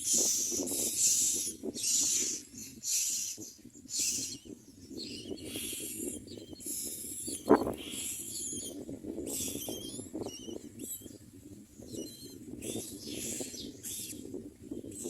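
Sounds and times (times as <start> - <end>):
birds high-pitched calls: 0.0 - 11.2, 11.8 - 15.0.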